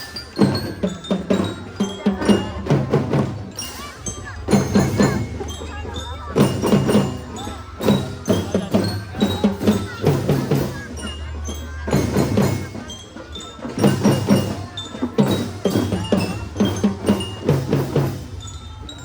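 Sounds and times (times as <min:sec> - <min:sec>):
bell lyre melody: 0:00.0 - 0:19.0
rhythmic drum strokes: 0:00.0 - 0:19.0.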